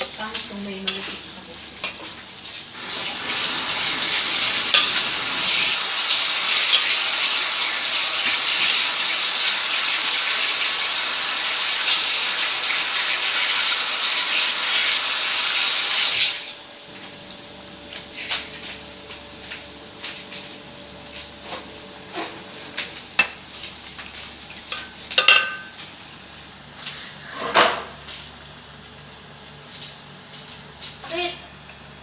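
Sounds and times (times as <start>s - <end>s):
hot oil sizzling: 0.0s - 32.0s.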